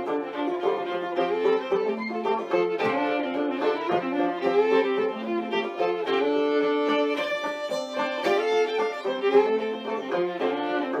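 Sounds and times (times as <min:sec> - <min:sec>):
violin melody: 0:00.0 - 0:11.0.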